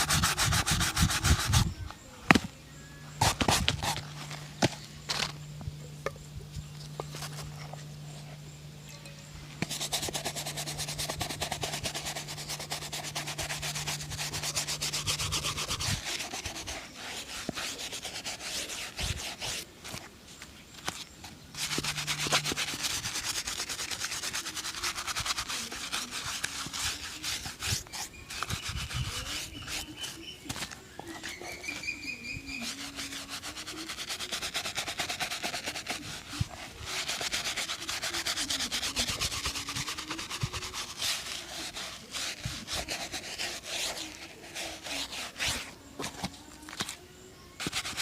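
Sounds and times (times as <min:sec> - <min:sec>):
brush rubbing a leather shoe: 0:00.0 - 0:02.4, 0:03.1 - 0:05.4, 0:09.6 - 0:47.0, 0:47.6 - 0:48.0.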